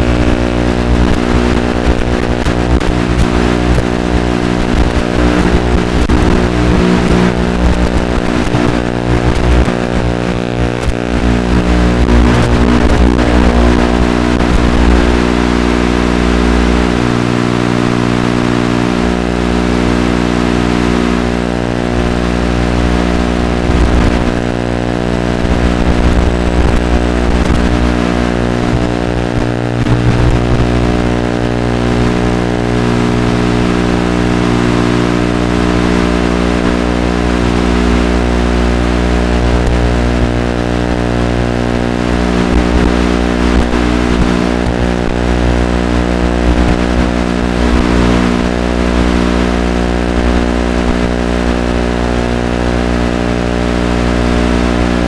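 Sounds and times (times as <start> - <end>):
faint wavering whine: 0.0 - 55.0
low buzzing drone: 0.0 - 55.0.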